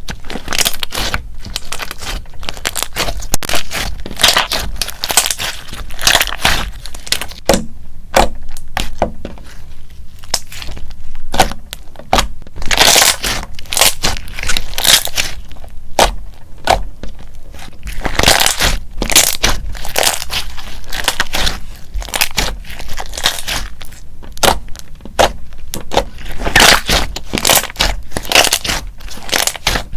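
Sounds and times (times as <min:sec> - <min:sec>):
slime crackling and squelching: 0:00.0 - 0:29.9.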